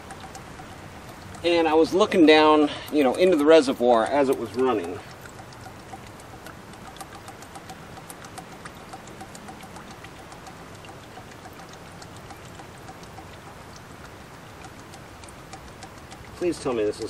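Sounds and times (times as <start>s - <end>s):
fluid dripping into plastic bucket: 0.0s - 17.0s.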